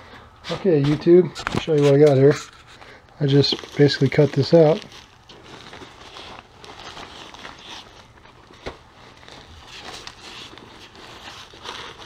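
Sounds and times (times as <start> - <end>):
bubble wrap crinkling: 0.5 - 12.0.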